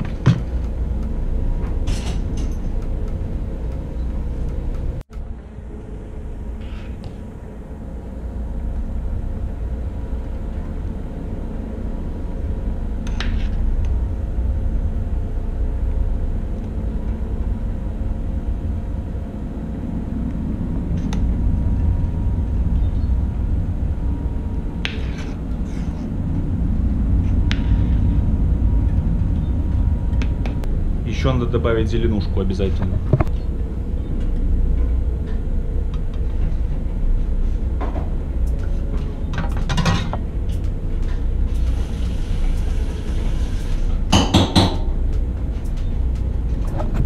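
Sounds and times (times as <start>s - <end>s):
faint steady hum: 0.0s - 47.0s
low machinery rumble: 0.0s - 47.0s.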